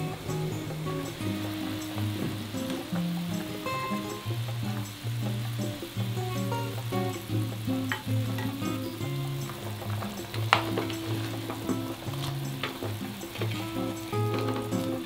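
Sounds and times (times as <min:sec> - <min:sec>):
background music: 0:00.0 - 0:15.0
broth boiling and bubbling: 0:00.0 - 0:15.0.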